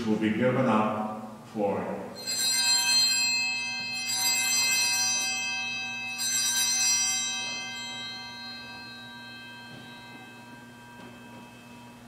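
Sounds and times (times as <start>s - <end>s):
altar bells ringing: 2.2s - 12.0s.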